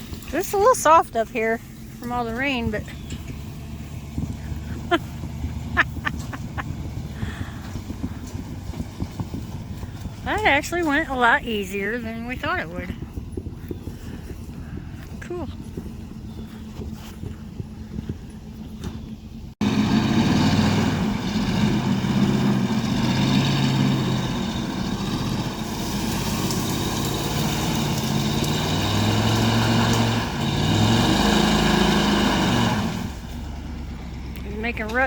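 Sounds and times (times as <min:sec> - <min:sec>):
vehicle engine revving under load: 0:00.0 - 0:11.4, 0:15.3 - 0:35.0.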